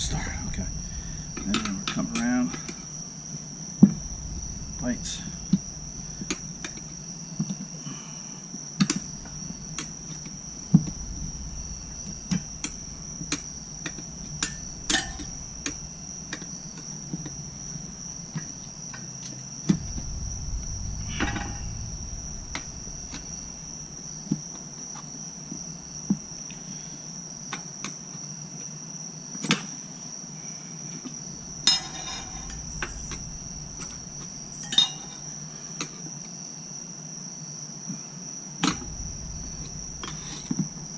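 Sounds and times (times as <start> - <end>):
high-pitched insect trill: 0.0 - 40.9.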